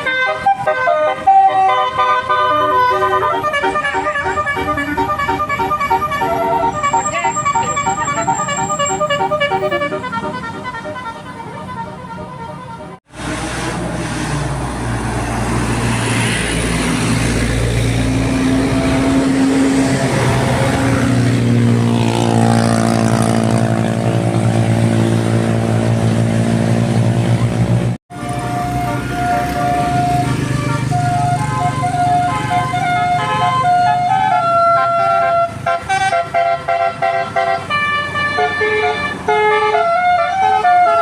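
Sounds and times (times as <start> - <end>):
musical bus horns: 0.0 - 14.3, 17.7 - 41.0
bus engine running: 0.0 - 41.0.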